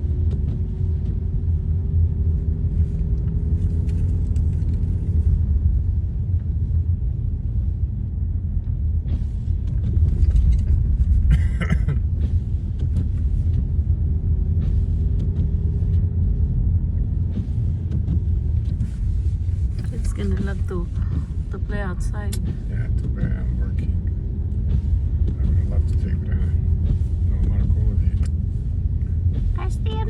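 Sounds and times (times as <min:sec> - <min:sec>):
road and engine rumble in car: 0:00.0 - 0:30.0.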